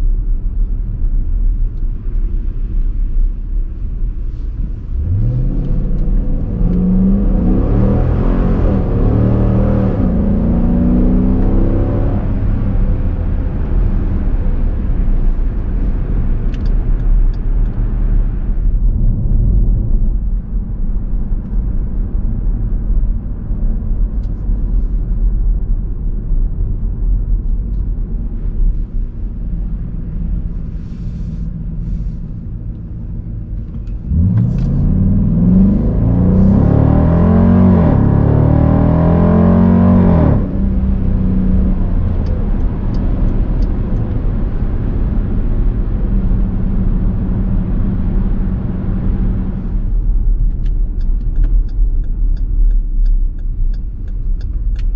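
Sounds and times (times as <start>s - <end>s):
car exhaust accelerating hard: 0.1s - 54.9s.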